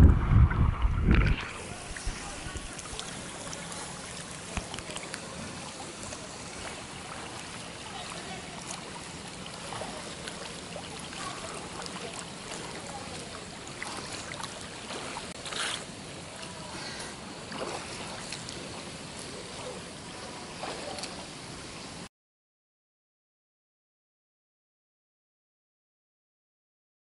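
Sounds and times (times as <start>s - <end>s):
swimmer splashing water: 0.0s - 22.0s.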